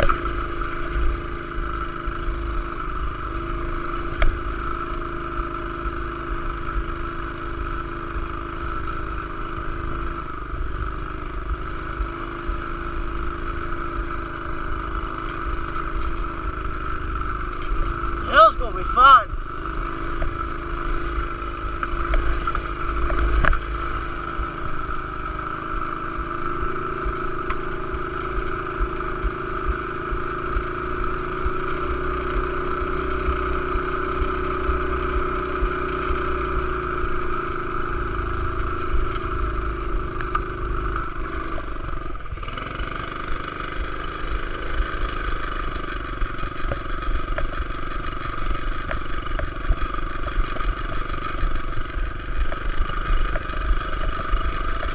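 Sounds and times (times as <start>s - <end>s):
motorbike engine running: 0.0s - 54.9s.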